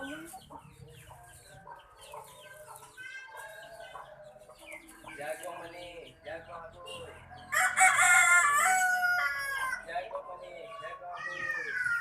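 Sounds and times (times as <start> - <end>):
bird clucking and chattering: 0.0 - 12.0.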